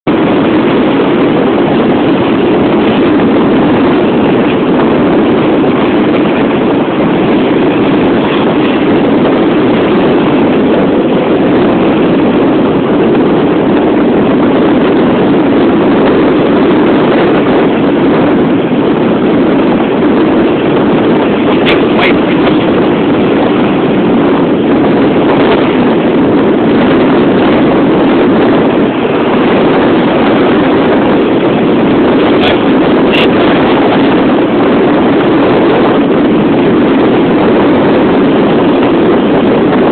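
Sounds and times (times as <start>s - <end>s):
wind buffeting microphone: 0.0s - 39.9s
sea waves breaking against wall: 0.1s - 39.9s.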